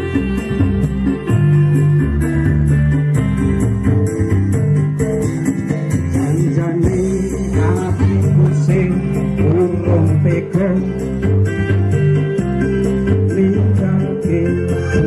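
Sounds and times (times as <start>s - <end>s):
hand drums: 0.0s - 14.0s
electronic keyboard melody: 0.0s - 15.0s.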